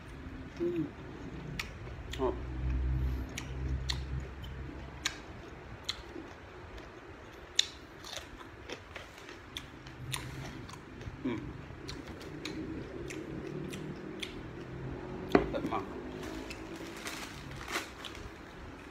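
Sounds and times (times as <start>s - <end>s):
person chewing crisp beans: 0.4s - 18.9s.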